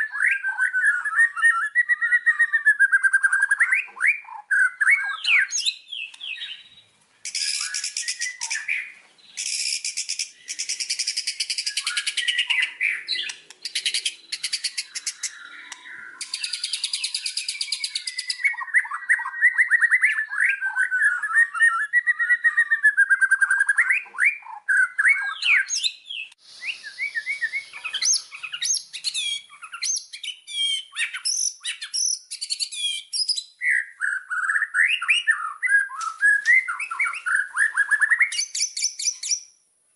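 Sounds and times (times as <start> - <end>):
songbird whistling and trilling: 0.0 - 39.6.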